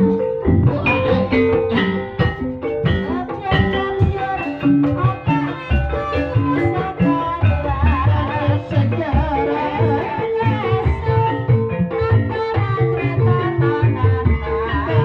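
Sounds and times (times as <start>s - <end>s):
drum beats: 0.0s - 15.0s
gamelan keyed percussion melody: 0.0s - 15.0s.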